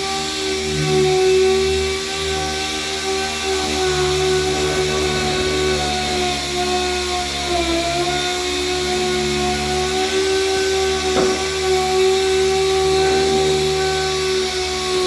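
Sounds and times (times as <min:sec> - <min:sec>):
power sander running: 0:00.0 - 0:15.0.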